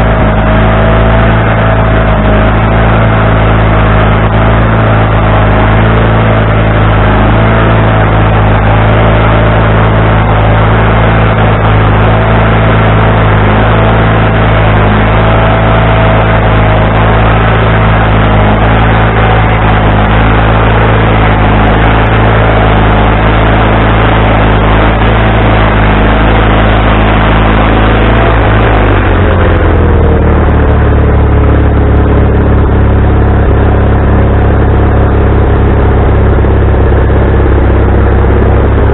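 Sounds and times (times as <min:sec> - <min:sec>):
high whine: 0:00.0 - 0:38.9
sawmill engine running: 0:00.0 - 0:38.9.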